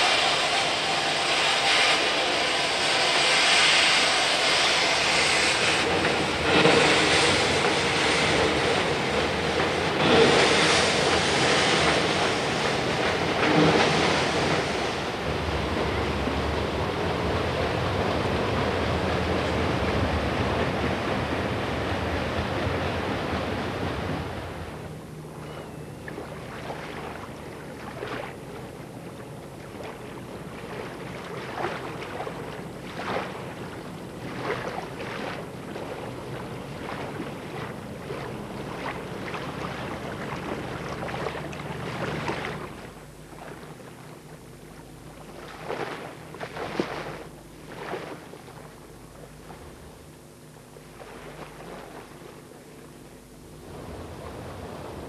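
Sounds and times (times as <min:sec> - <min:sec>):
water rushing and splashing: 0:00.0 - 0:52.5.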